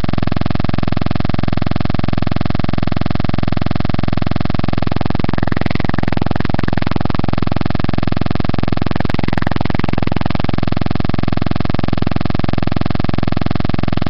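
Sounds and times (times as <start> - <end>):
loud electronic buzz: 0.0 - 14.0.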